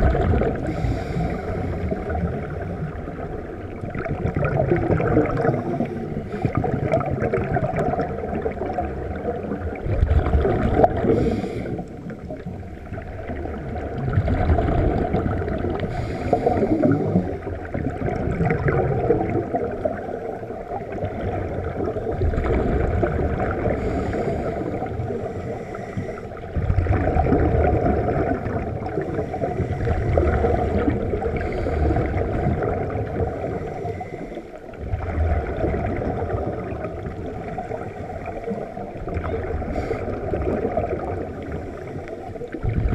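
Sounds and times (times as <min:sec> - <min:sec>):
underwater regulator bubbles: 0:00.0 - 0:42.9.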